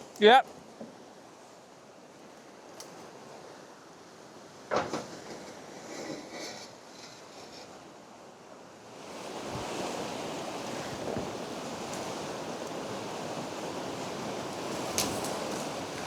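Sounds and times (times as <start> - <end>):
ocean surf washing: 0.0 - 16.0.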